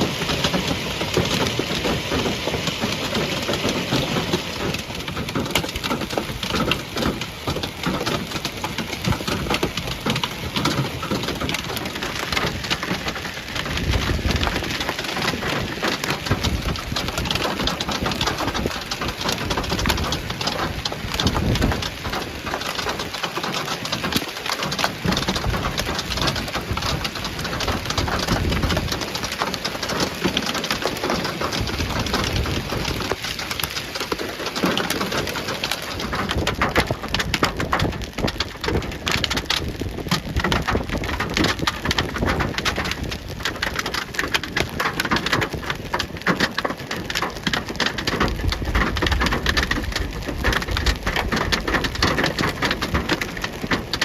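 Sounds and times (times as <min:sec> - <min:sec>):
heavy hail pelting: 0:00.0 - 0:54.0.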